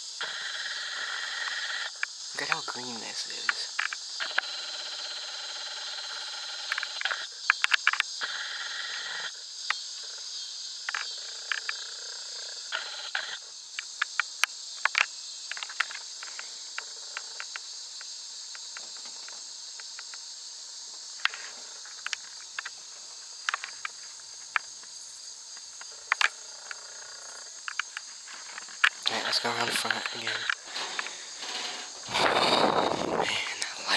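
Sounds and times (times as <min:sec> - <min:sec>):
crickets and insects chirping: 0:00.0 - 0:33.9.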